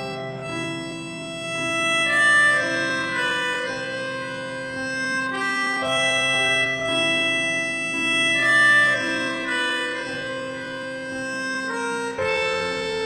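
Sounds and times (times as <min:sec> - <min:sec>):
slow keyboard chords: 0:00.0 - 0:13.0.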